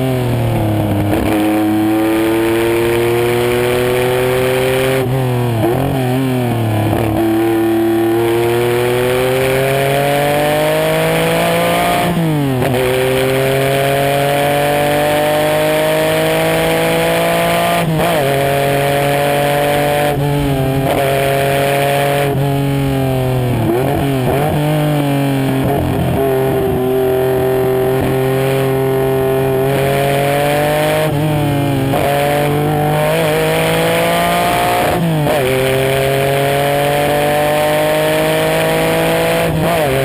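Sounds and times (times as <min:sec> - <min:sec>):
race car engine accelerating: 0:00.0 - 0:40.0.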